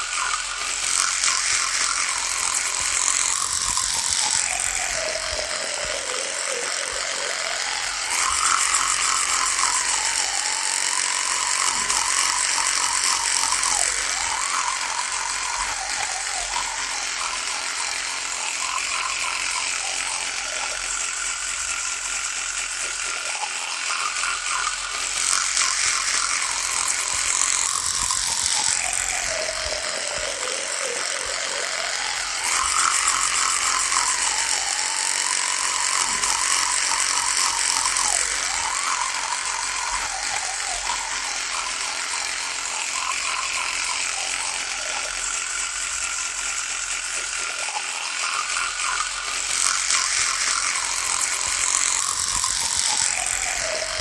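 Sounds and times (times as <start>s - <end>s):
electric toothbrush buzzing: 0.0s - 54.0s.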